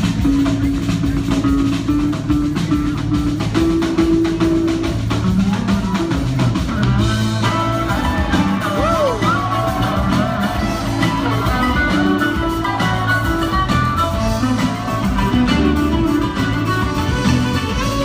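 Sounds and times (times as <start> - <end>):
bass notes: 0.0 - 18.0
drum kit beat: 0.0 - 18.0.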